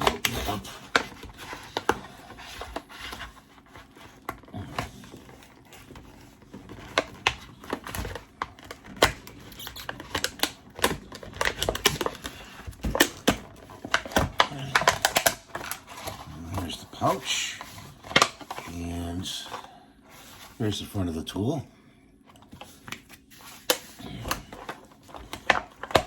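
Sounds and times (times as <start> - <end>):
packaging clicks and rustles: 0.0 - 20.8, 22.3 - 26.0.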